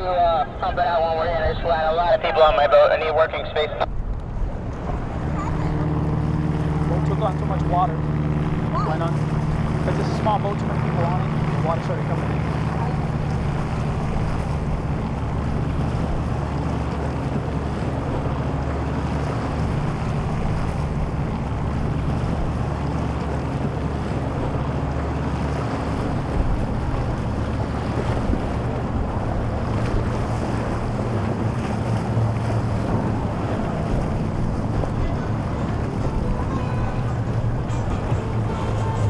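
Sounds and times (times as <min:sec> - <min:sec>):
choppy water washing: 0:00.0 - 0:39.0
outboard boat engines humming: 0:00.0 - 0:39.0
wind buffeting microphone: 0:03.8 - 0:39.0.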